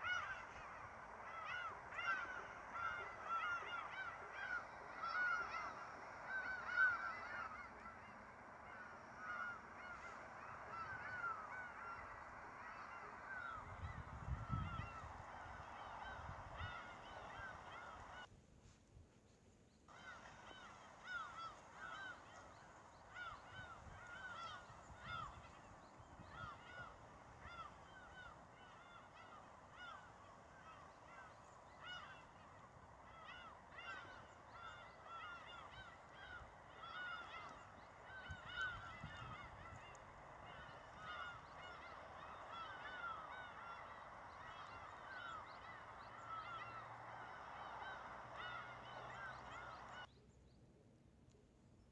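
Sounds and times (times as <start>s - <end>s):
animals honking chorus: 0.0s - 18.2s, 20.1s - 50.0s.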